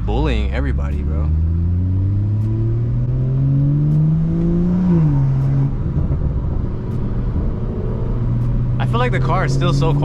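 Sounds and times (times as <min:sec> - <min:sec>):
car engine revving through exhaust: 0:00.0 - 0:10.0.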